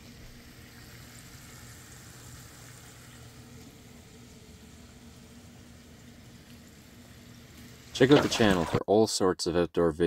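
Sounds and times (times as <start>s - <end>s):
oil sizzling in a pot: 0.0s - 8.8s
low steady hum: 0.0s - 10.0s.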